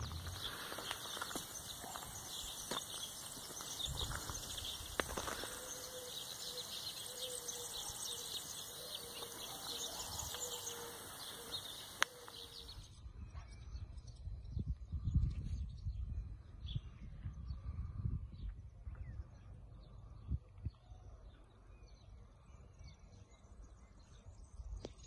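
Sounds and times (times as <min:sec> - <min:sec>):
wind buffeting microphone: 0:00.0 - 0:20.8
small birds chirping: 0:00.0 - 0:25.0.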